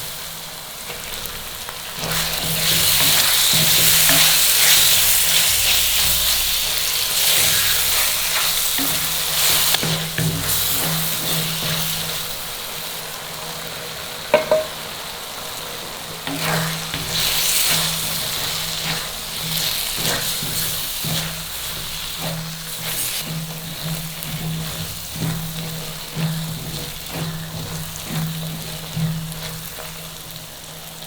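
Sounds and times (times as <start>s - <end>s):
scraping strokes in a pan: 0.0s - 13.1s, 16.2s - 31.0s
food sizzling in a pan: 0.0s - 31.0s.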